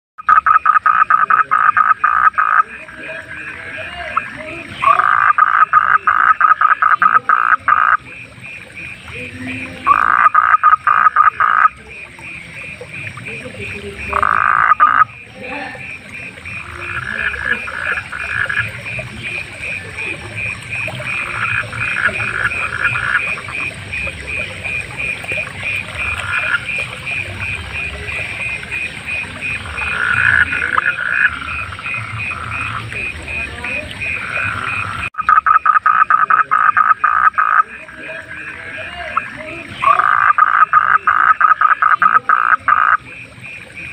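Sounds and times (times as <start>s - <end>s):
frogs croaking: 0.2s - 43.9s.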